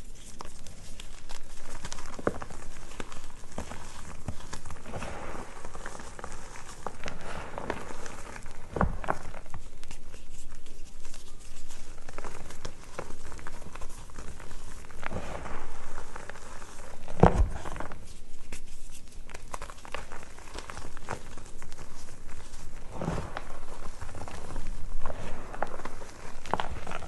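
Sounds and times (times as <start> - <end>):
chalk crunching and crackling: 0.0 - 27.0.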